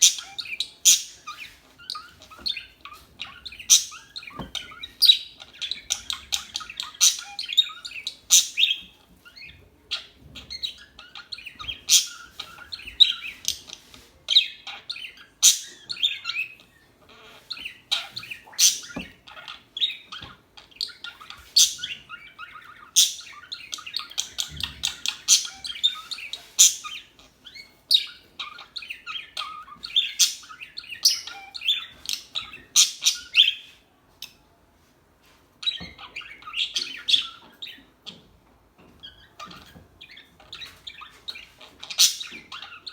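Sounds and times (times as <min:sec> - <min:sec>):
budgerigars chirping and chattering: 0:00.0 - 0:34.4, 0:35.2 - 0:42.9.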